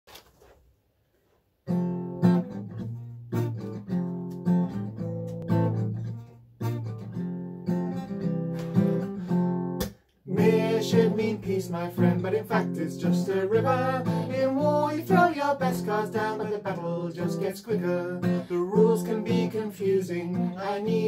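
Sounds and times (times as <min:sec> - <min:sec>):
acoustic guitar strumming chords: 0:01.7 - 0:21.0.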